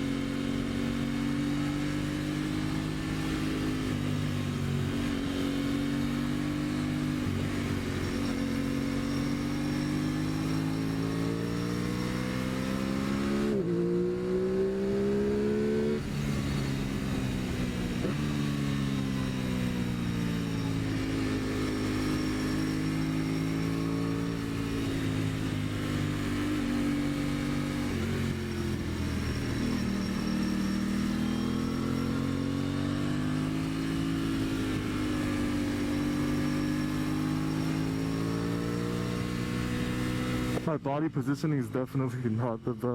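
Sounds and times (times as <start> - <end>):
motorcycle engine revving: 0.0 - 40.8.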